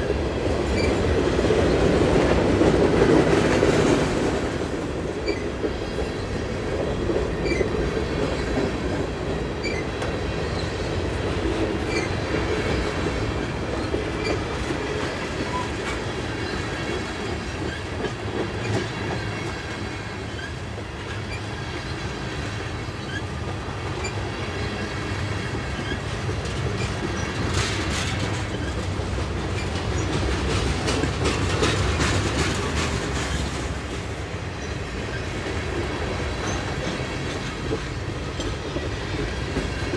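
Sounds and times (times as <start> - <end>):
freight wheels rumbling on rail: 0.0 - 39.9.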